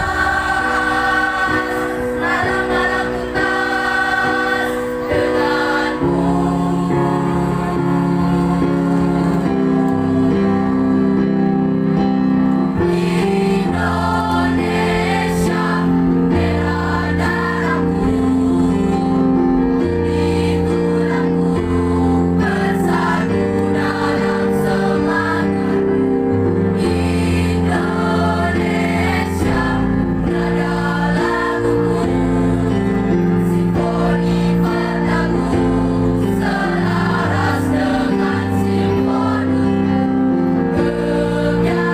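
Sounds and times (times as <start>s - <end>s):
mixed choir singing: 0.0s - 41.9s.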